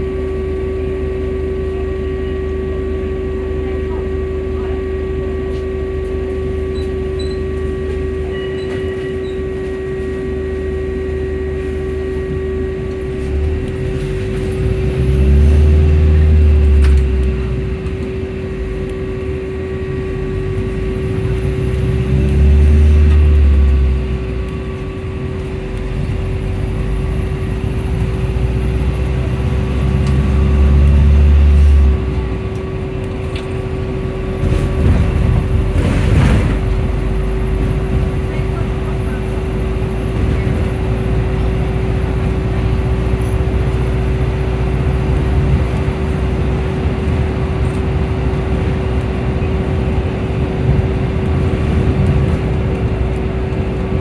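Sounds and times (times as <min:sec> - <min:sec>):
bus engine whine: 0:00.0 - 0:54.0
deep low drone: 0:00.0 - 0:54.0.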